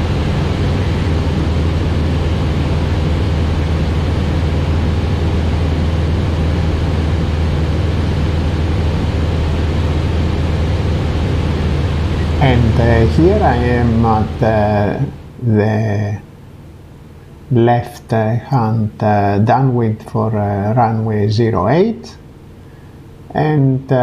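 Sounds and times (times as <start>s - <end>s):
airflow rushing over cabin: 0.0s - 24.0s
light aircraft engine droning: 0.0s - 24.0s.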